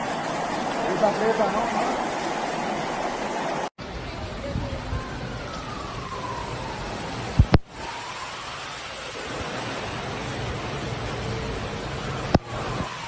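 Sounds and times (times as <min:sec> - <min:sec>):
floodwater rushing down street: 0:00.0 - 0:13.0.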